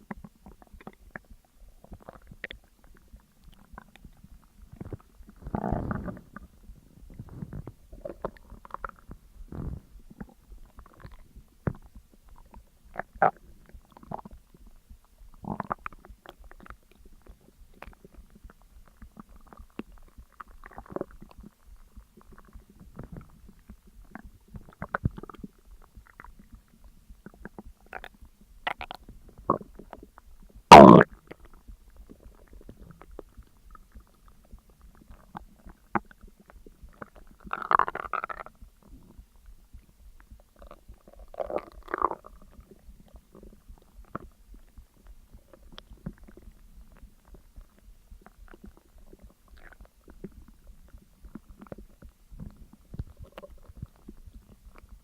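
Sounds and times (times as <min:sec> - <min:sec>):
stomach gurgling and rumbling: 0:00.0 - 0:55.0.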